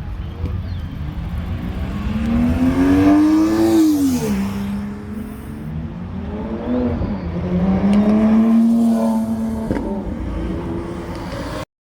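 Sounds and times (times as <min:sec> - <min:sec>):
sports car engine accelerating: 0:00.8 - 0:11.6.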